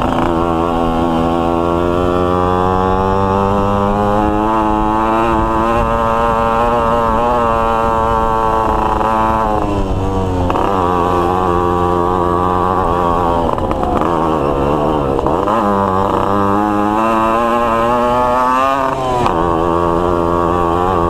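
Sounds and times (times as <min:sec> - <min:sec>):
two-stroke motorcycle engine: 0:00.0 - 0:21.0.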